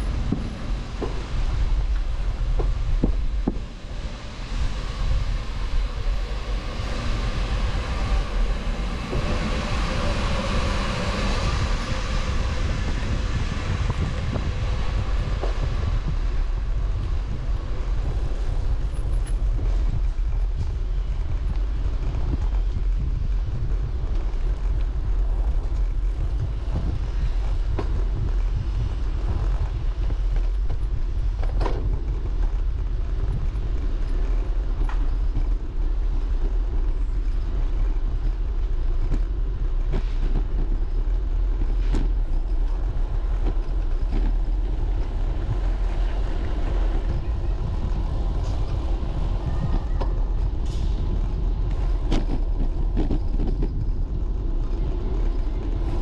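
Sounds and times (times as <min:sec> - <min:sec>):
road noise: 0:00.0 - 0:56.0
wind rumble: 0:00.0 - 0:56.0.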